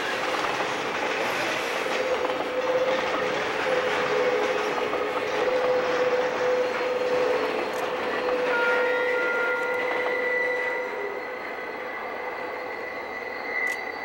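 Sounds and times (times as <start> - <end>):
railcars rolling on rails: 0.0 - 14.0.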